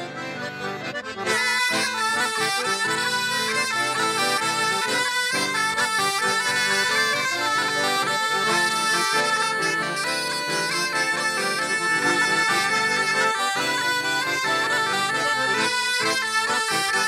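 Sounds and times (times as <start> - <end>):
accordion: 0.0 - 17.0
bagpipe melody over drone: 0.0 - 17.0.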